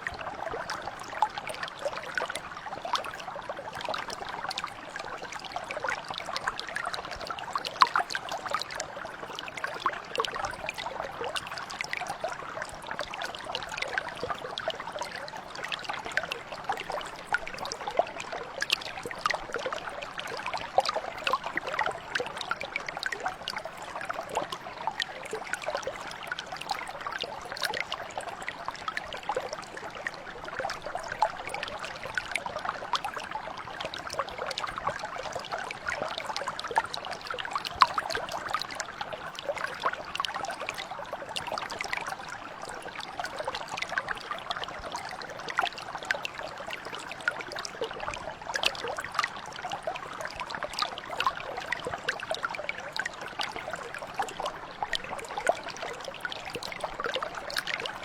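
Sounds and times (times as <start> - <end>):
brook water babbling: 0.0 - 58.0.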